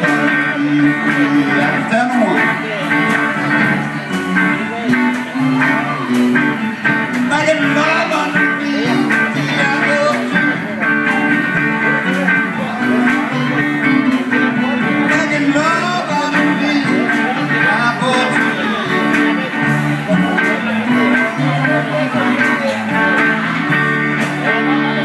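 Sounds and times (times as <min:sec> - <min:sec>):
electric guitars: 0:00.0 - 0:25.0
keyboard: 0:00.0 - 0:25.0
live band playing: 0:00.0 - 0:25.0.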